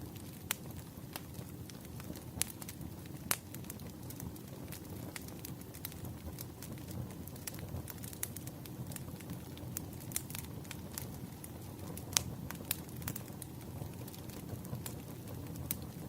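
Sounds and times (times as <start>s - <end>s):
burning logs crackling and popping: 0.0s - 16.0s
flames rumbling: 0.0s - 16.0s.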